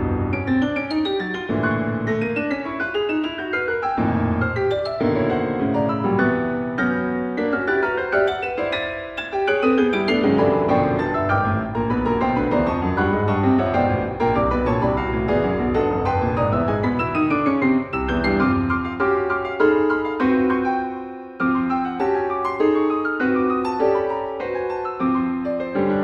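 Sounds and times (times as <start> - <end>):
solo piano piece: 0.0 - 26.0.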